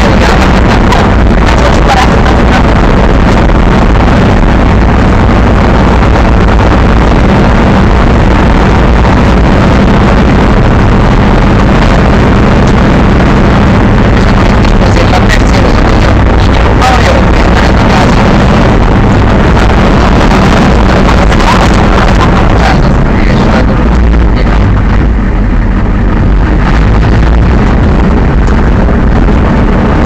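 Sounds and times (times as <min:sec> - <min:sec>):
monster truck engine running: 0:00.0 - 0:30.0.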